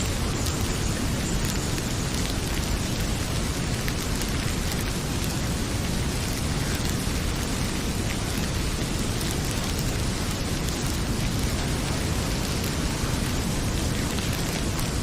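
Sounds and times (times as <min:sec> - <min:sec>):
heavy rain pouring: 0:00.0 - 0:15.0
wood fire crackling: 0:00.0 - 0:15.0.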